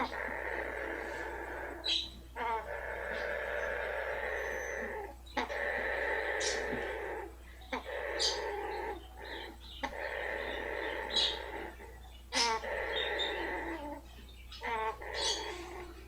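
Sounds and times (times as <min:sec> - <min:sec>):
parrot purring: 0:00.0 - 0:16.0
parrot rattling trills: 0:00.0 - 0:16.0
parrot snorting: 0:00.0 - 0:16.0.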